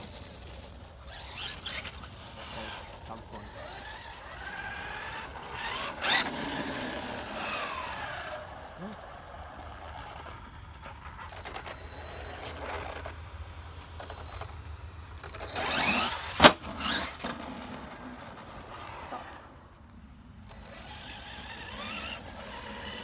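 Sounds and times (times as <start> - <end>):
electric motor whining: 0.0 - 14.5, 15.2 - 19.6, 20.4 - 23.0.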